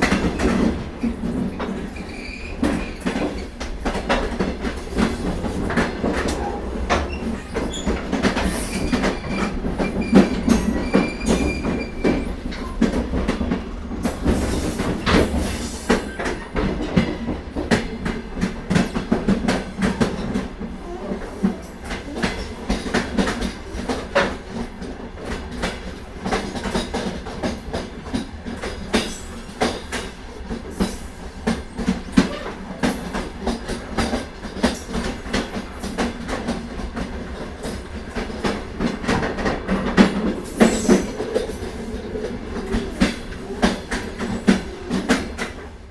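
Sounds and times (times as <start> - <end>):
train carriage rumble: 0.0 - 45.9.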